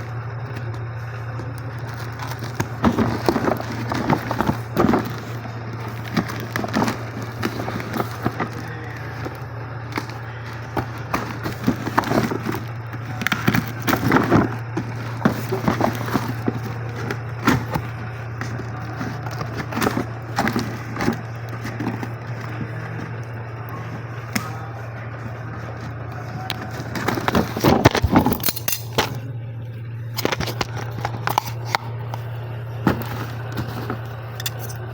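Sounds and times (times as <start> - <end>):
packaging being handled: 0.0 - 29.1, 30.1 - 34.9
steady low hum: 0.0 - 34.9.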